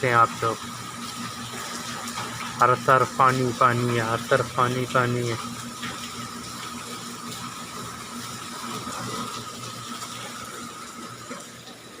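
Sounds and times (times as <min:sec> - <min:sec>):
steady low hum: 0:00.0 - 0:11.1
thin steady whine: 0:00.0 - 0:11.8.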